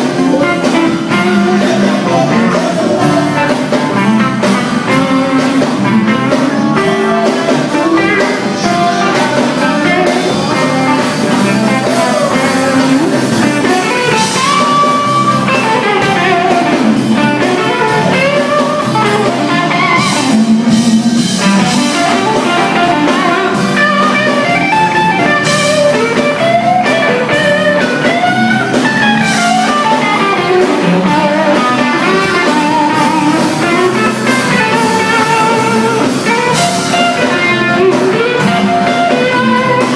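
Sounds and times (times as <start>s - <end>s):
blues guitar lead line: 0.0s - 39.9s
drums: 0.0s - 39.9s.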